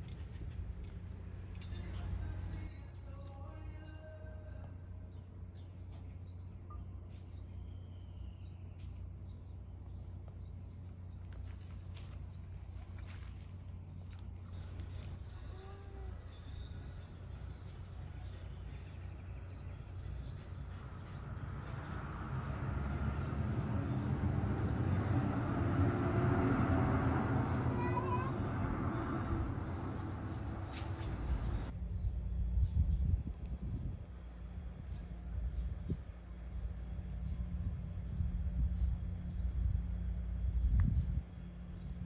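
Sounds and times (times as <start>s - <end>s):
low outdoor rumble: 0.0s - 42.0s
small birds chirping: 0.0s - 42.0s.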